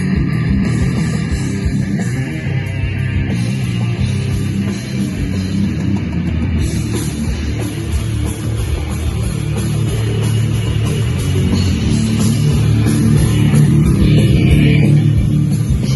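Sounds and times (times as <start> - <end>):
distorted electric guitar: 0.0 - 15.9
drum kit: 0.0 - 15.9.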